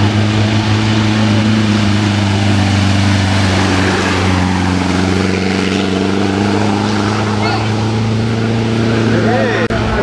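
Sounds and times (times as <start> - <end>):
engine running at steady revs: 0.0 - 10.0.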